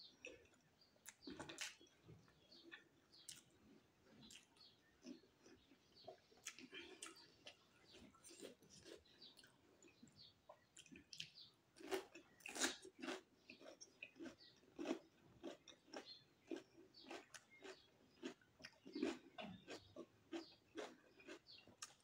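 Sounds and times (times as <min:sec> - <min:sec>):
chewing crunchy cucumber: 0:00.0 - 0:22.0.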